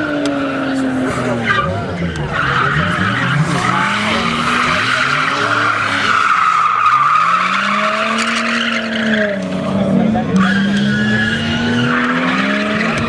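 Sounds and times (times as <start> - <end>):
car engine: 0.0 - 13.0
tyres screeching on asphalt: 0.0 - 13.0.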